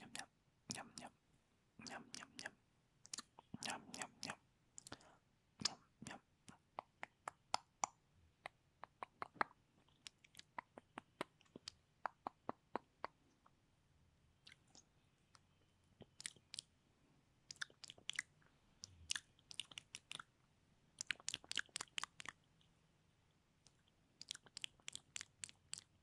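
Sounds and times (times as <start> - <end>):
wet tongue and lip clicks: 1.8 - 13.6, 14.4 - 16.7, 17.4 - 20.4, 21.0 - 22.8, 23.6 - 26.0.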